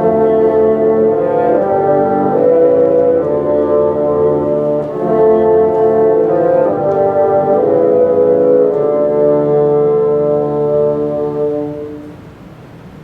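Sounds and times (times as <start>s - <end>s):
bassoon ensemble chords: 0.0s - 12.7s.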